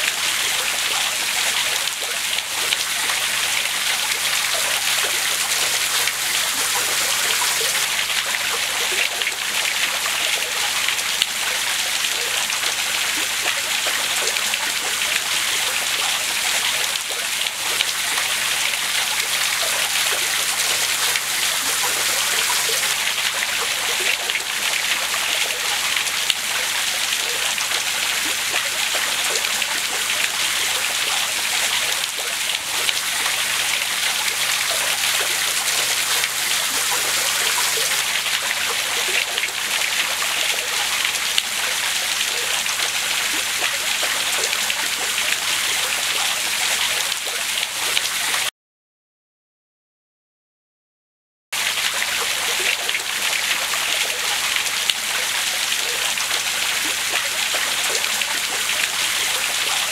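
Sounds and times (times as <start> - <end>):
running water splashing: 0.0 - 48.5, 51.6 - 59.9.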